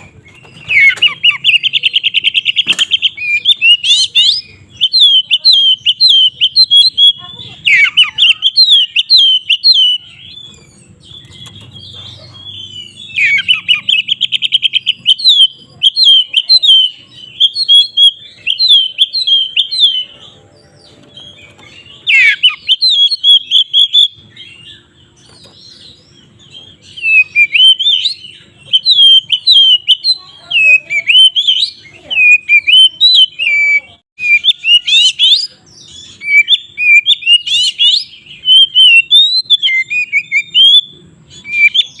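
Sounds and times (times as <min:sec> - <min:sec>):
bird singing whistled notes: 0:00.2 - 0:11.8, 0:12.4 - 0:20.2, 0:21.3 - 0:42.0.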